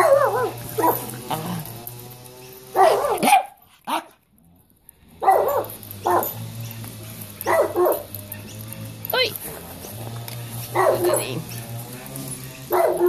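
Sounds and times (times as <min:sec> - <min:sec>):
dogs barking: 0:00.0 - 0:04.2, 0:05.1 - 0:13.0
lawn mower humming: 0:00.0 - 0:13.0.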